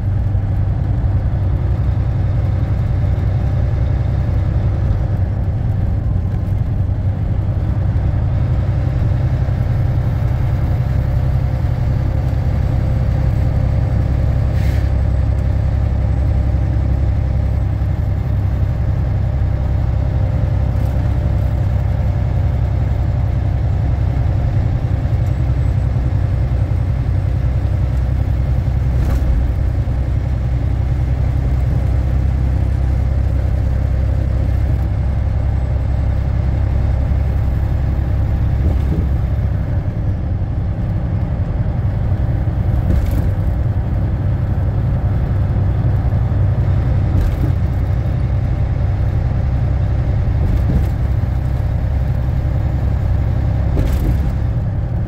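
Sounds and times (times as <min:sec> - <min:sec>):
truck engine and road noise: 0:00.0 - 0:55.0.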